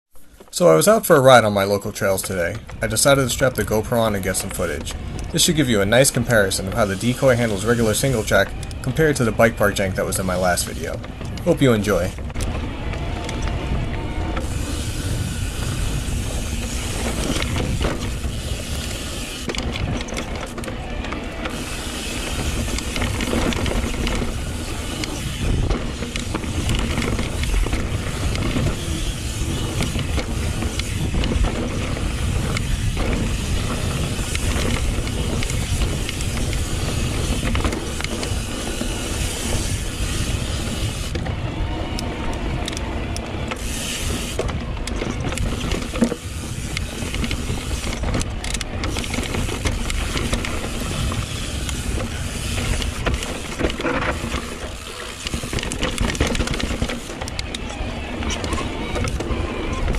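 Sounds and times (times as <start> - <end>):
bike tyres rolling over dirt: 0.1 - 59.9
bike knocks and rattles: 1.4 - 59.9
wind on microphone: 2.4 - 59.9.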